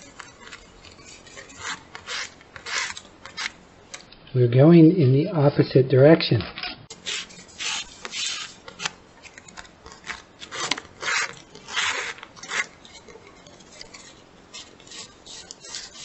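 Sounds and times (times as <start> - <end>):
shoelace scraping through holes: 0.0 - 4.1, 6.6 - 16.0
stiff paper sheet rustling: 0.0 - 4.1, 7.0 - 16.0.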